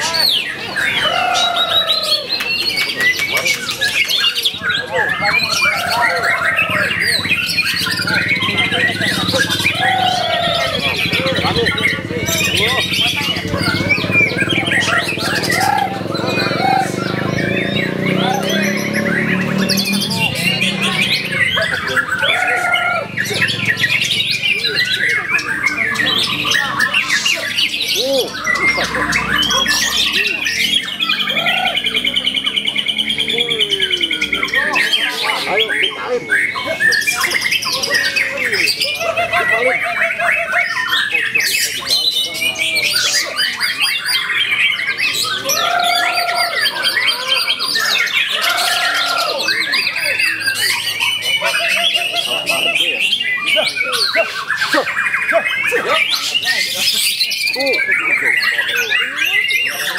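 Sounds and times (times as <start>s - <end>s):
bird chirps and trills: 0.0s - 59.9s
other songbirds singing: 0.0s - 59.9s
songbird whistling and chattering: 0.0s - 59.9s.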